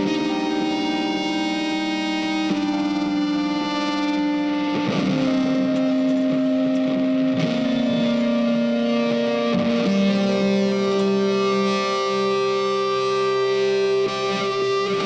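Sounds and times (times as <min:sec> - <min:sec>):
guitar with effects: 0:00.0 - 0:15.0.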